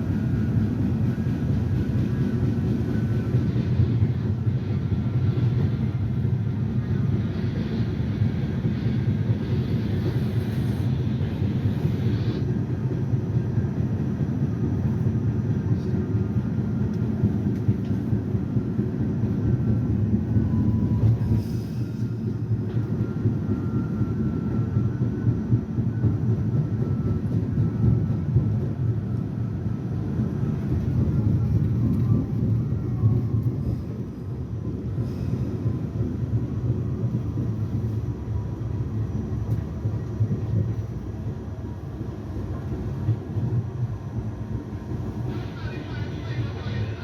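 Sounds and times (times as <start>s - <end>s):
wheels rumbling on rails: 0.0s - 47.0s.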